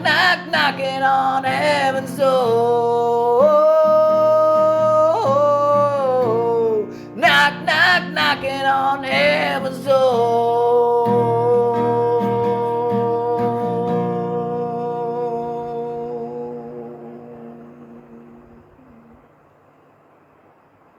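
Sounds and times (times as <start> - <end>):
person singing long notes: 0.0 - 19.3
acoustic guitar: 0.0 - 20.5.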